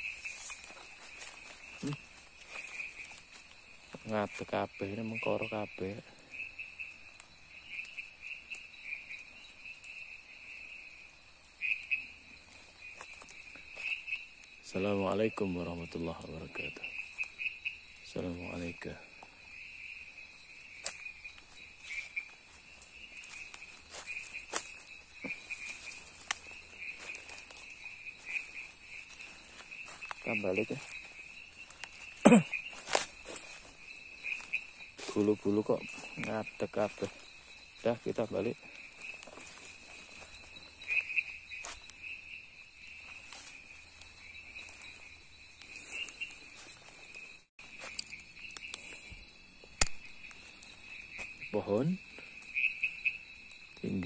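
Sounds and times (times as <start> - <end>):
footsteps crunching through undergrowth: 0.0 - 6.5, 11.6 - 15.6, 16.4 - 51.5
sharp crackles: 0.0 - 42.2, 42.8 - 51.5
crickets chirring: 0.0 - 54.0.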